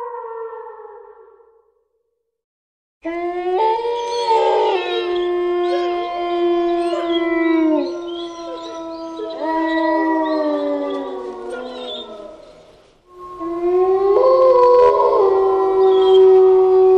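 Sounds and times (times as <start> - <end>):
wolves howling: 3.0 - 16.9.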